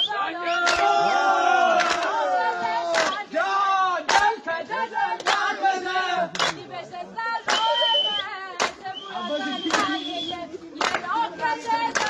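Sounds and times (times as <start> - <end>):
voices singing: 0.0 - 12.0
group hand clapping: 0.5 - 12.0.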